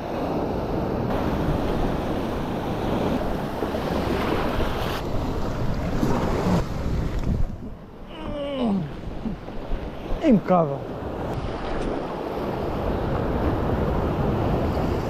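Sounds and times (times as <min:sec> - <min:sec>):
sea surf washing in: 0:00.0 - 0:15.0
wind buffeting microphone: 0:00.4 - 0:15.0.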